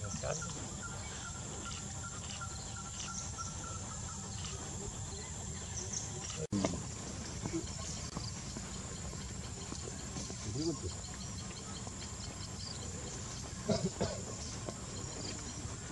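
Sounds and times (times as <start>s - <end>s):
high insect drone: 0.0s - 15.9s.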